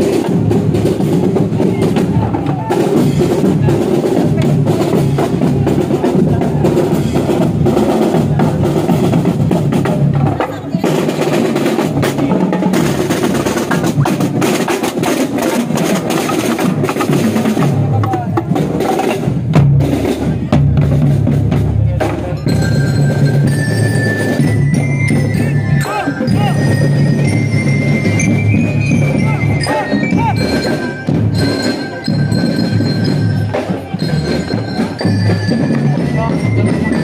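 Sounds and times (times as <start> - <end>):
bass drums: 0.0 - 37.0
snare drums: 0.0 - 37.0.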